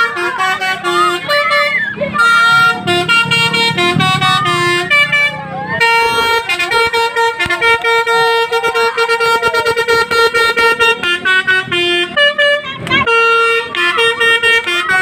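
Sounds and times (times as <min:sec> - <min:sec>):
bus air horn melody: 0:00.0 - 0:15.0.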